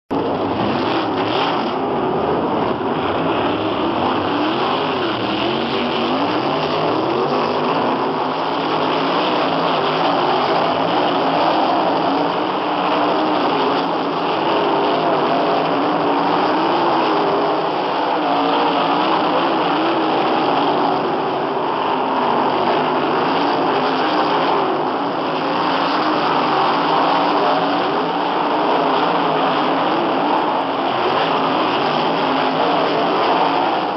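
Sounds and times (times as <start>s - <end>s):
racing car engines droning: 0.1s - 33.9s.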